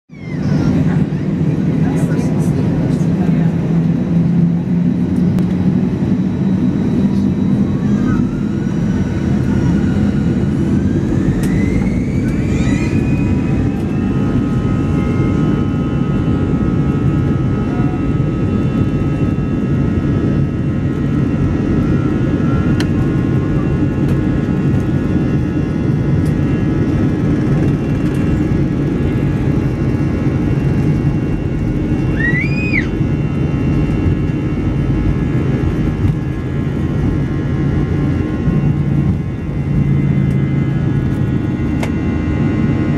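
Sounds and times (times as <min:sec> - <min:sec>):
jet engines running: 0:00.1 - 0:42.9.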